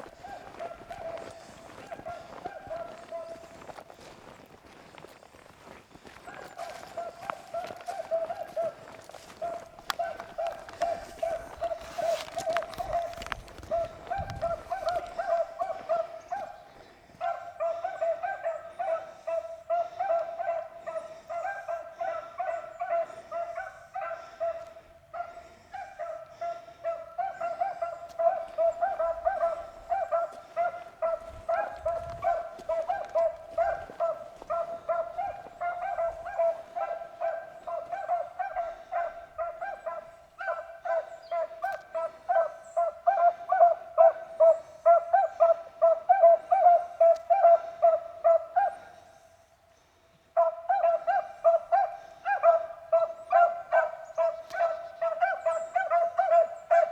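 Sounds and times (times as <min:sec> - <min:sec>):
hounds baying: 0:00.0 - 0:56.9.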